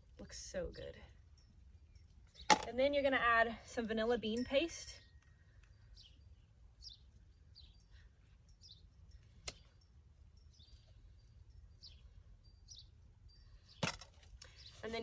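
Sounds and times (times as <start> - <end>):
faint bird chirping: 0.5 - 2.5, 3.8 - 15.0.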